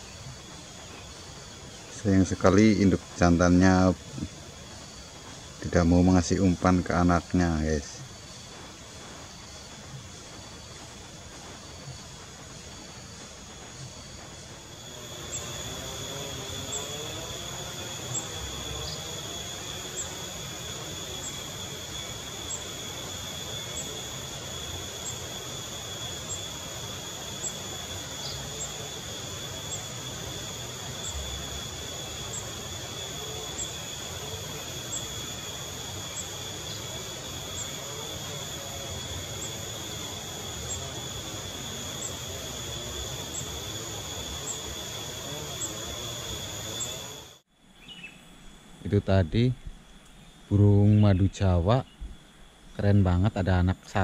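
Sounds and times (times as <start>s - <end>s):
insect trill: 0.0s - 54.0s
low background hiss: 0.0s - 54.0s
short insect chirp: 0.0s - 54.0s.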